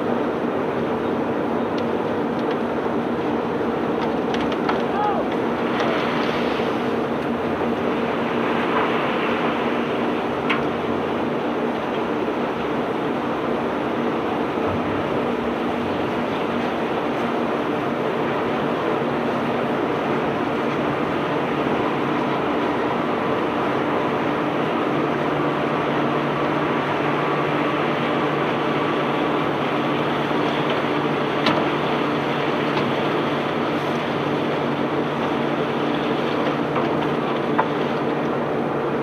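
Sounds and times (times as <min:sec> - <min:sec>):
conveyor rumble: 0:00.0 - 0:39.0
engine hum: 0:00.0 - 0:39.0.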